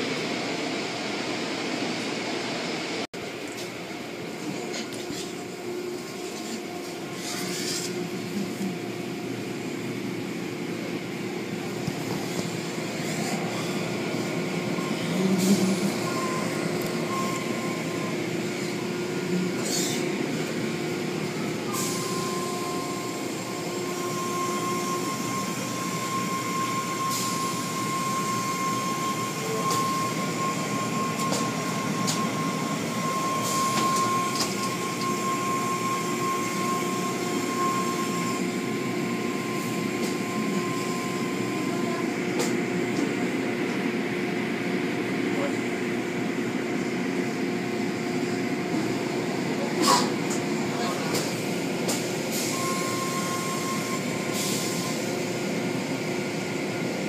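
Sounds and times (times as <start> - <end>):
car wash machinery rumble: 0.0 - 57.0.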